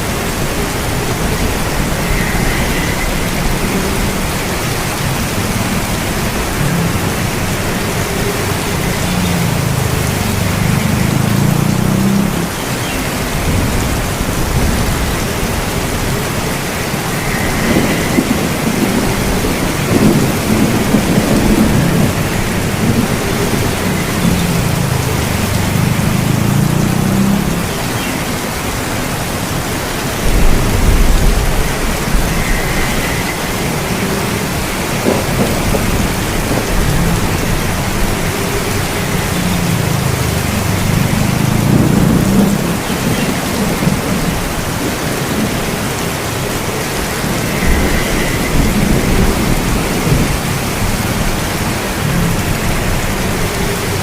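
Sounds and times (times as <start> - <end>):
steady rain falling: 0.0 - 54.0
thunder rumbling: 0.0 - 54.0.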